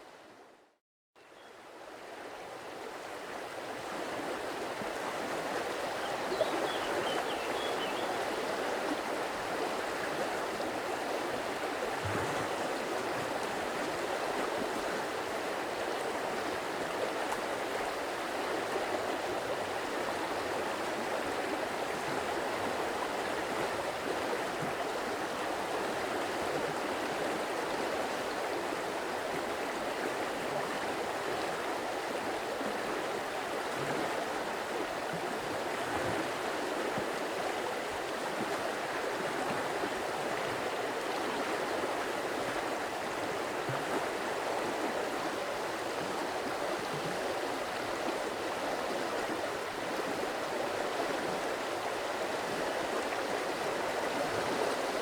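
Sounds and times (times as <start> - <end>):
stream water flowing: 1.5 - 55.0.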